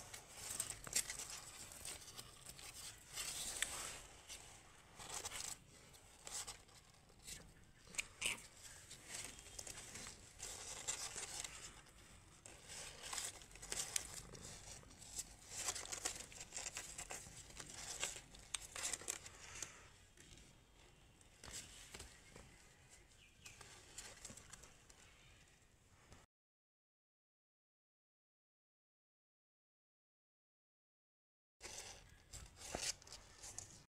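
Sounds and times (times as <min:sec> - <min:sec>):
rustling and crinkling on cardboard: 0:00.0 - 0:25.1, 0:31.6 - 0:33.9.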